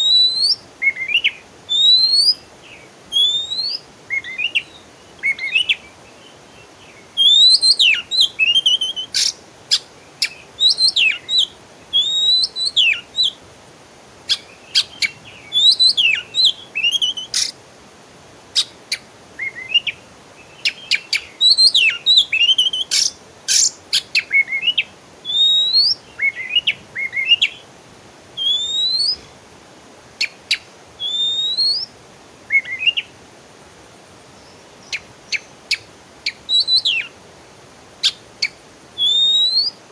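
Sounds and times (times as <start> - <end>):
songbird chirping and whistling: 0.0 - 13.4, 14.3 - 17.6, 18.6 - 27.6, 28.4 - 29.3, 30.2 - 31.9, 32.5 - 33.1, 34.4 - 37.2, 38.0 - 39.9.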